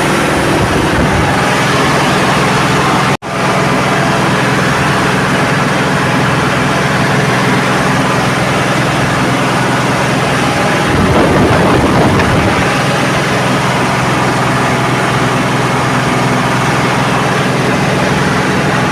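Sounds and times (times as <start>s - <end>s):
combine harvester engine running: 0.0s - 18.9s.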